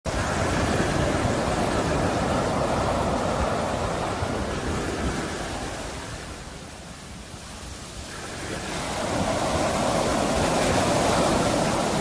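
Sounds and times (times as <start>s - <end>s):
ocean waves breaking: 0.1s - 12.0s.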